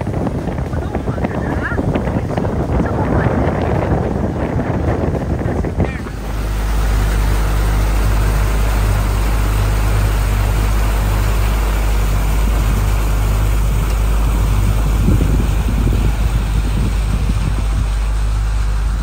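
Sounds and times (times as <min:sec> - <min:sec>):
motorboat engine rumbling: 0:00.0 - 0:19.0
rushing wind and water: 0:00.0 - 0:19.0.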